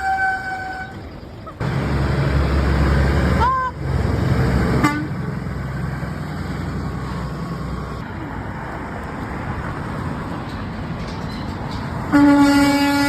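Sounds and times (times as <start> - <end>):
heavy vehicle engine drone: 0.0 - 13.0
roar of passing traffic: 1.6 - 13.0.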